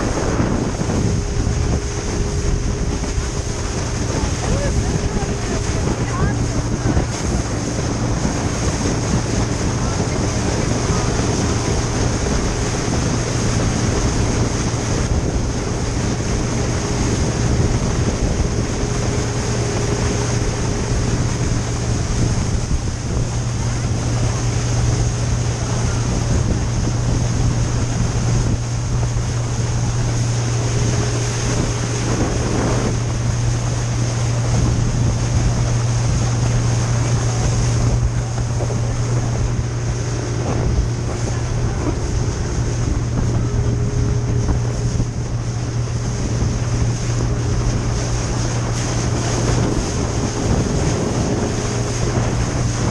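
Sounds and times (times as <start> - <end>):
boat engine droning: 0.0 - 52.9
water rushing past hull: 0.0 - 52.9
wind buffeting microphone: 0.0 - 52.9.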